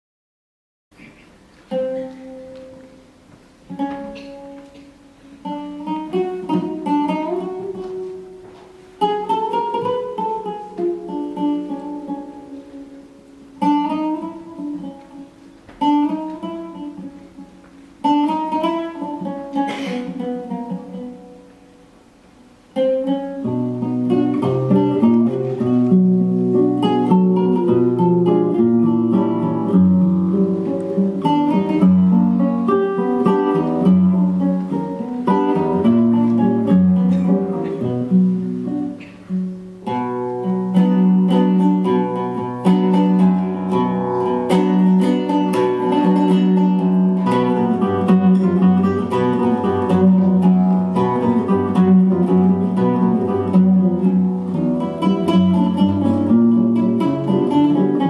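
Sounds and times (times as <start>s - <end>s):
classical guitar: 0.9s - 58.0s.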